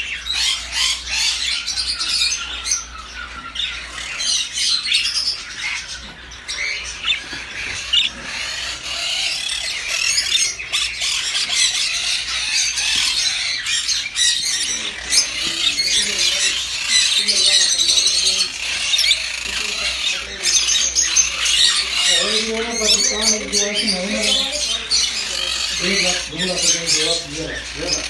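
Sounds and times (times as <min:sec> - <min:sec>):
parrots squawking and chattering: 0:00.0 - 0:28.0.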